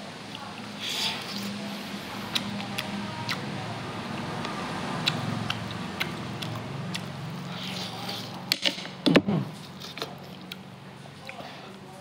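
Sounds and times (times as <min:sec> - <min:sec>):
mouth clicks and smacks eating: 0:00.3 - 0:08.5, 0:09.6 - 0:11.5.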